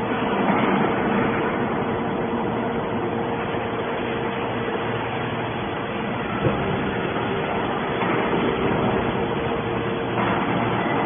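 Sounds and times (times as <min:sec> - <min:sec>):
hydraulic machine hum and whine: 0:00.0 - 0:11.0.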